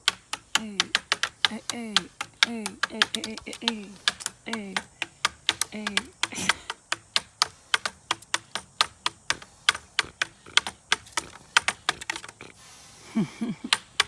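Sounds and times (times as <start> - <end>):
rapid sharp clicks: 0.0 - 12.6.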